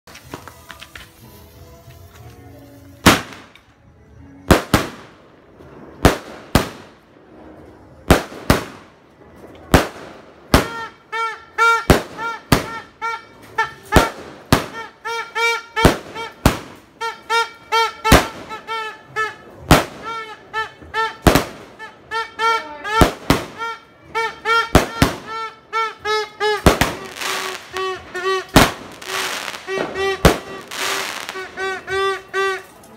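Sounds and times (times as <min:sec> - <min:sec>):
firework shots: 0:03.0 - 0:03.7, 0:04.5 - 0:32.9.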